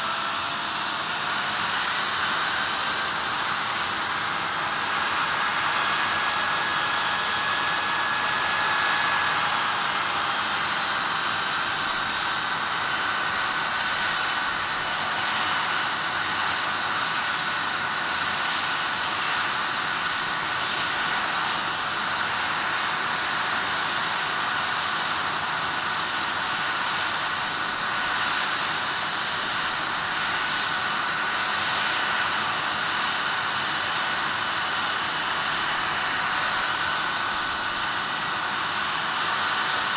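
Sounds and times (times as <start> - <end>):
high compressor whine: 0.0 - 39.9
rushing jet noise: 0.0 - 39.9.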